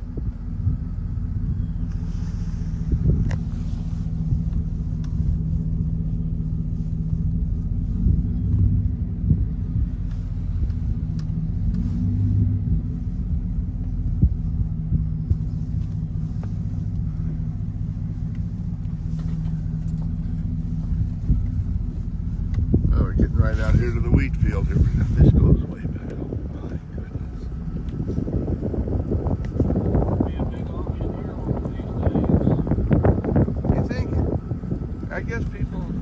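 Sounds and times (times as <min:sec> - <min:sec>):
vehicle engine low rumble: 0:00.0 - 0:36.0.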